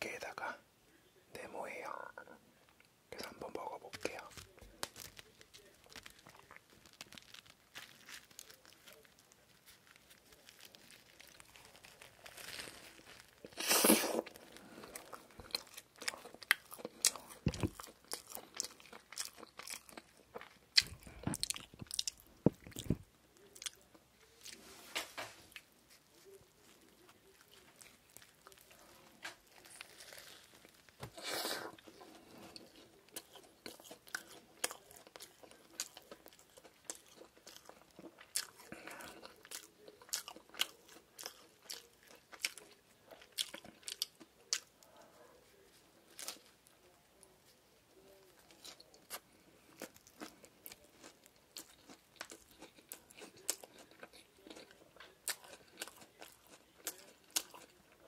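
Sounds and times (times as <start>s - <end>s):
crunchy chewing of burger: 3.3s - 47.3s, 48.0s - 58.0s.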